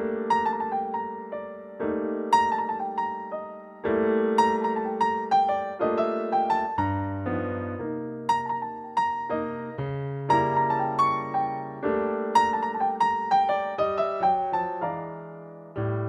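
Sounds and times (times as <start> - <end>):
electric piano chords and melody: 0.0 - 16.0.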